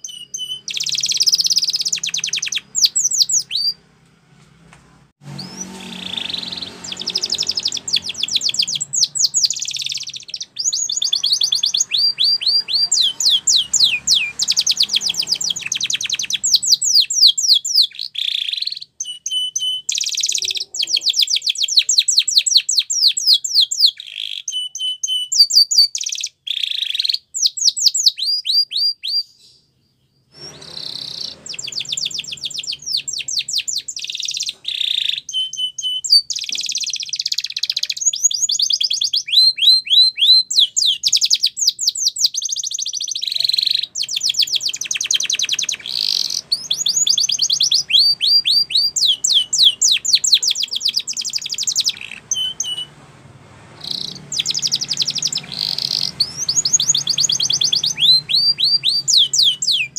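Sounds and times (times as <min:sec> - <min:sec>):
canary singing fast trills: 0:00.0 - 0:03.9, 0:05.2 - 0:59.9.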